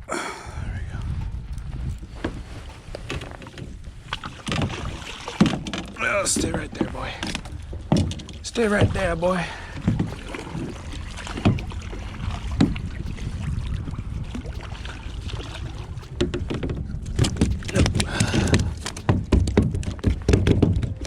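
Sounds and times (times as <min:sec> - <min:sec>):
knocks and bumps on kayak: 0:02.0 - 0:14.7, 0:16.2 - 0:21.0.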